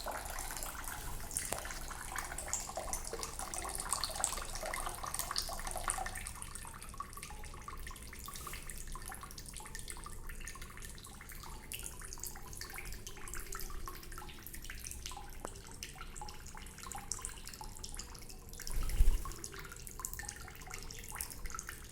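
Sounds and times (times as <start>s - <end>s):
water dripping in a sink: 0.0s - 21.9s.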